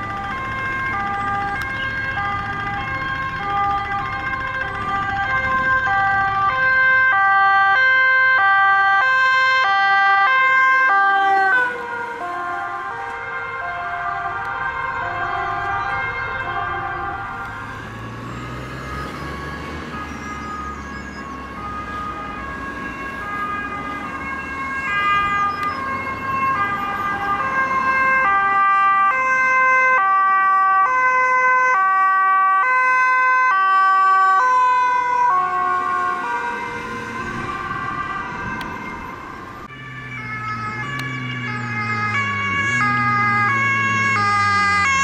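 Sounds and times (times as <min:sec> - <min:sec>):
motorcycle siren and engine: 0:00.0 - 0:45.0
police two-tone siren: 0:00.0 - 0:45.0.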